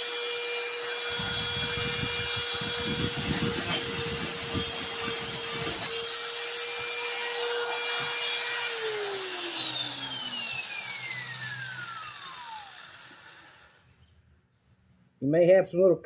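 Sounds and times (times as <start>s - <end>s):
grinder grinding steel blade: 0.0s - 13.9s
grinder whine spinning down: 0.0s - 14.0s.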